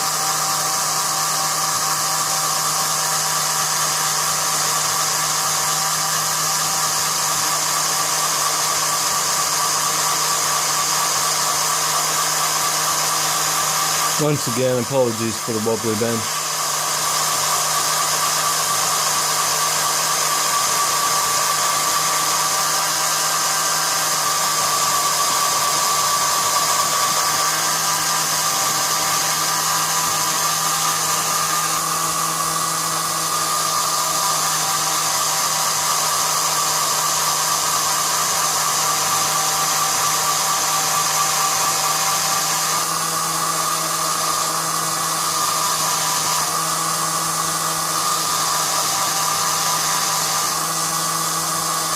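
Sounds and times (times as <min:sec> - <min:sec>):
drill motor whining: 0:00.0 - 0:51.9.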